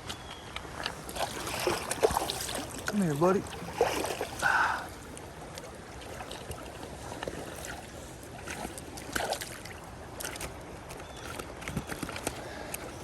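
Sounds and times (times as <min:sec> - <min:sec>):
light taps and small splashes: 0:00.0 - 0:13.0
creek water flowing: 0:00.6 - 0:13.0.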